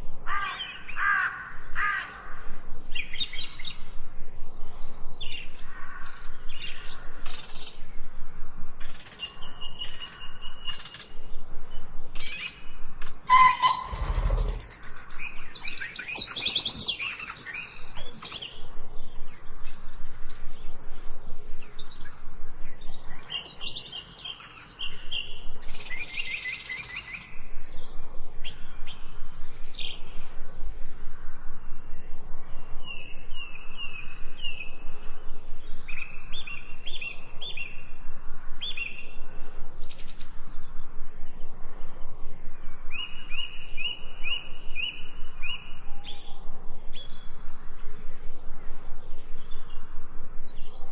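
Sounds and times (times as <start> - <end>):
songbirds chirping and singing: 0.1 - 50.9.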